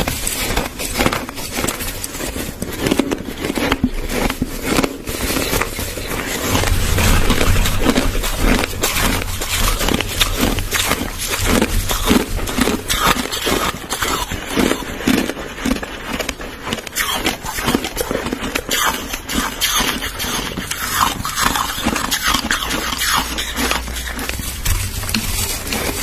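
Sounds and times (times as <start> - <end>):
crushed ice being chewed: 0.0 - 26.0.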